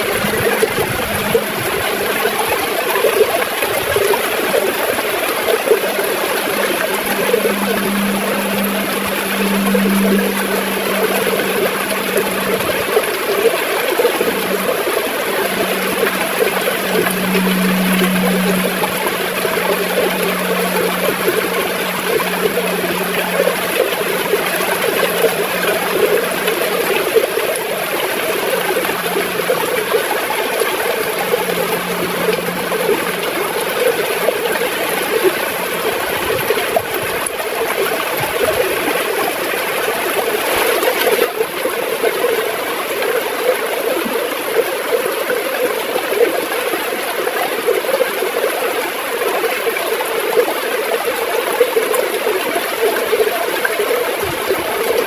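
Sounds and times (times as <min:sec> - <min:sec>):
river water gurgling and flowing: 0:00.0 - 0:55.0.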